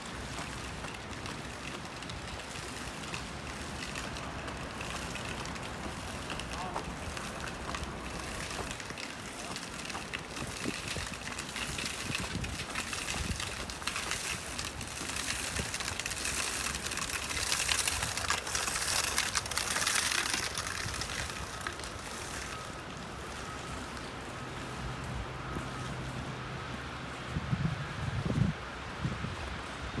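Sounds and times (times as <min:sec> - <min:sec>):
hissing outdoor noise: 0:00.0 - 0:30.0.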